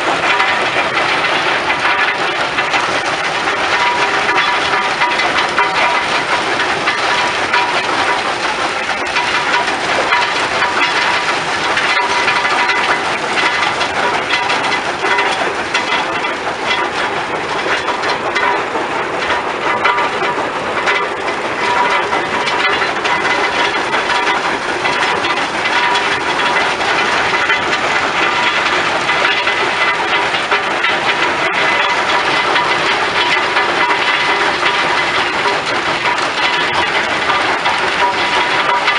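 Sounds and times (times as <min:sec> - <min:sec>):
rock clattering through crusher: 0:00.0 - 0:38.9.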